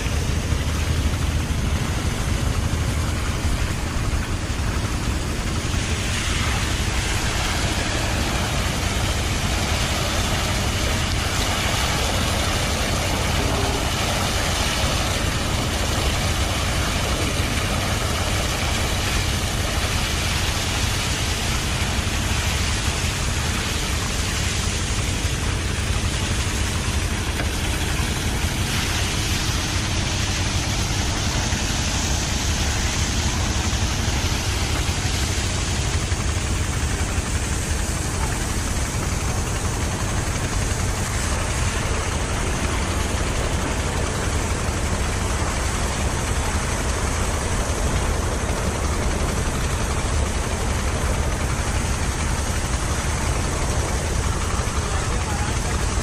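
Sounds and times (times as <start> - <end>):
water jets splashing into mud: 0.0 - 56.0
water pump engine rumble: 0.0 - 56.0.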